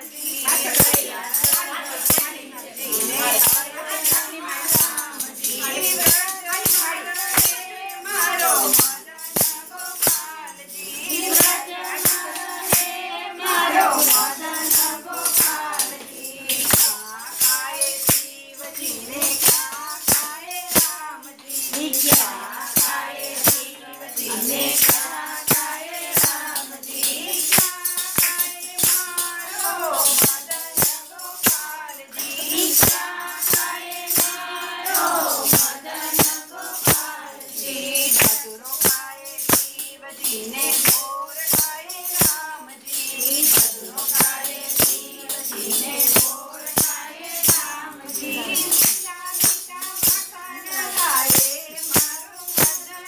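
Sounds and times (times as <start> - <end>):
women singing together: 0.0 - 53.0
wooden clappers jingling: 0.0 - 53.0
hands clapping: 0.4 - 10.4, 11.0 - 23.6, 24.2 - 37.2, 38.0 - 39.7, 40.5 - 42.5, 43.2 - 52.9.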